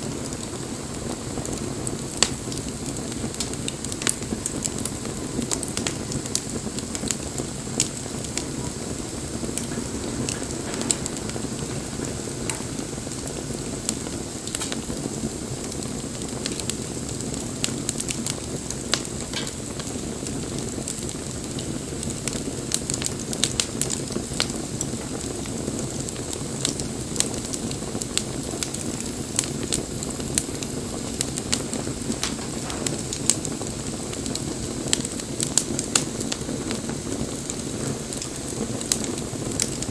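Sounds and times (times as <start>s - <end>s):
flame rushing: 0.0s - 39.9s
wood fire crackling and popping: 0.0s - 39.9s.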